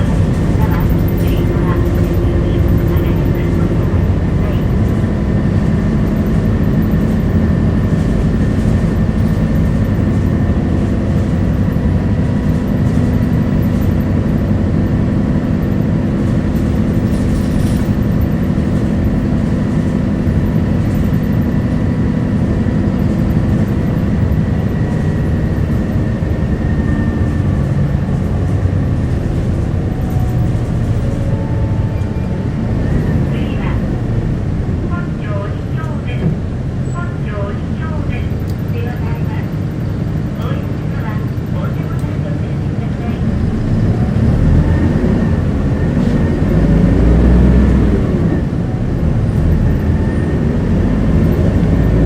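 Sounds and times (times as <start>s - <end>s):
bus engine and road drone: 0.0s - 52.0s.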